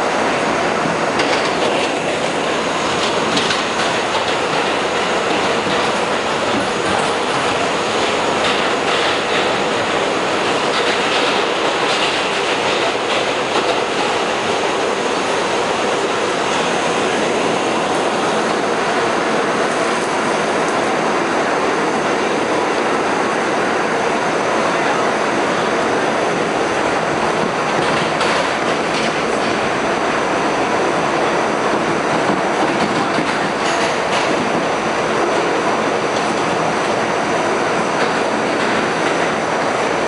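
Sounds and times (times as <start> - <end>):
subway wheel and track noise: 0.0 - 40.0.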